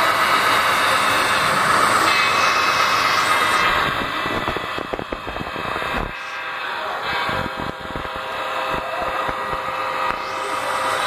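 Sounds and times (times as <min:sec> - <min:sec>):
model trains running: 0:00.0 - 0:11.0.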